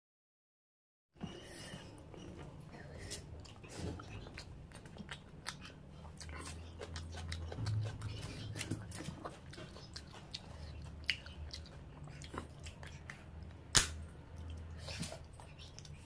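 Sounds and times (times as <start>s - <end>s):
man chewing food: 1.2s - 16.0s.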